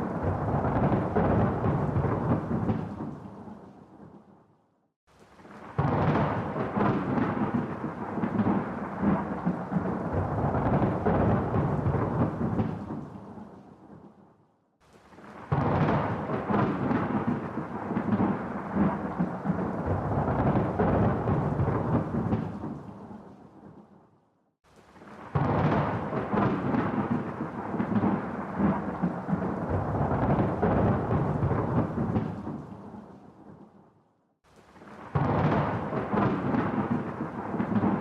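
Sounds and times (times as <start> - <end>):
thunder rolling: 0.0 - 4.1, 5.6 - 13.4, 15.2 - 23.8, 25.0 - 33.6, 34.8 - 38.0.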